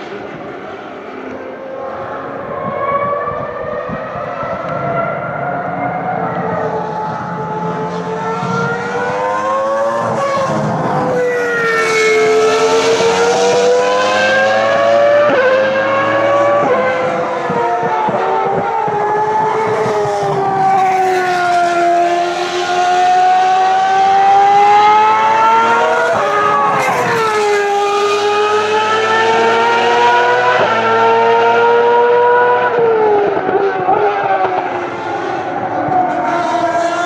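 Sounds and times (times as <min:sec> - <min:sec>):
racing car engines at high revs: 0:00.0 - 0:37.0.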